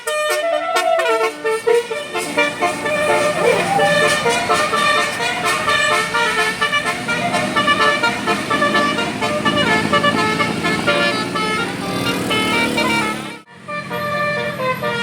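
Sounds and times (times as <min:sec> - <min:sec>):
musical bus horn melody: 0:00.0 - 0:15.0.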